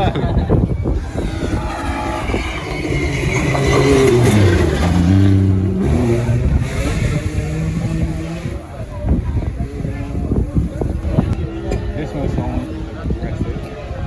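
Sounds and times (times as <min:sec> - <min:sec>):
rally car engine passing: 0:00.8 - 0:13.1.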